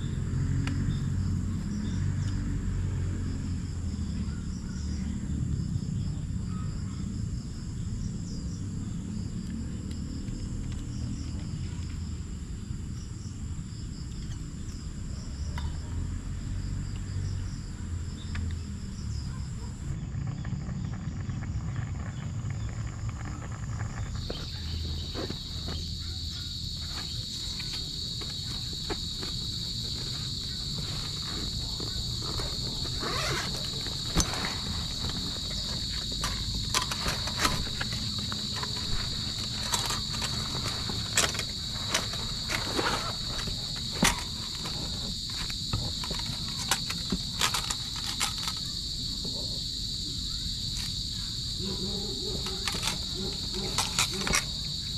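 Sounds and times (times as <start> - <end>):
insects trilling: 0.0 - 54.9
lower insect chorus: 0.0 - 54.9.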